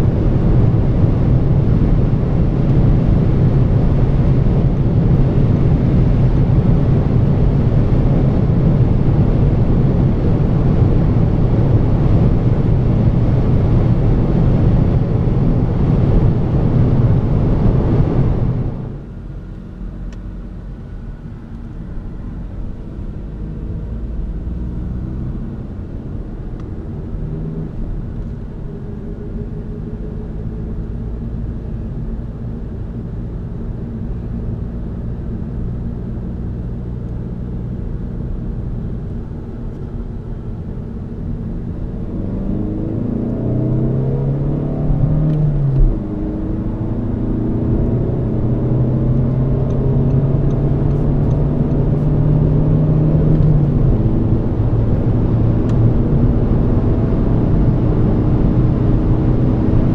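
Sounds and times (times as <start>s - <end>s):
low engine hum: 0.0s - 59.9s
road noise: 0.0s - 59.9s
wind and tyre noise: 0.0s - 59.9s.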